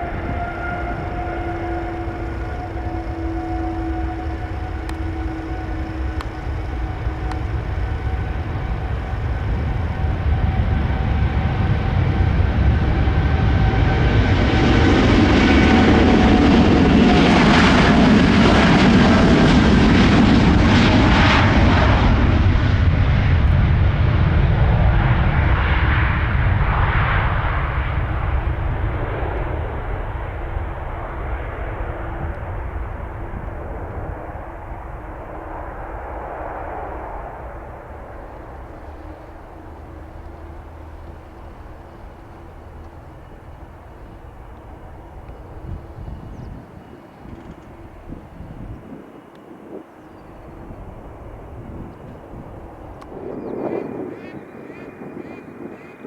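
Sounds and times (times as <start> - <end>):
jet engines whining: 0.0 - 56.0
jet roar: 0.0 - 56.0.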